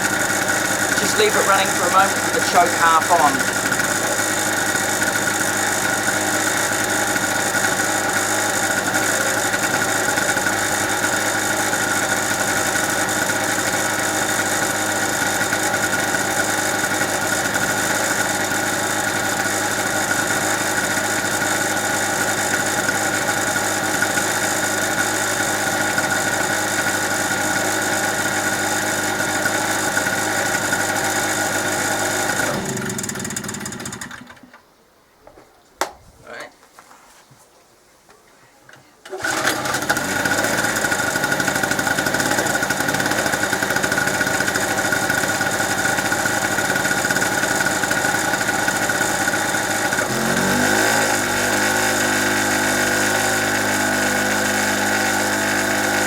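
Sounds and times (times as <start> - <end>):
portable generator running: 0.0 - 34.5, 39.1 - 56.0.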